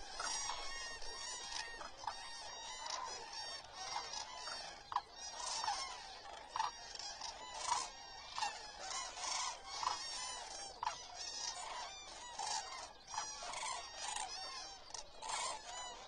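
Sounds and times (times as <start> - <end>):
flock of cranes calling: 0.0 - 16.0.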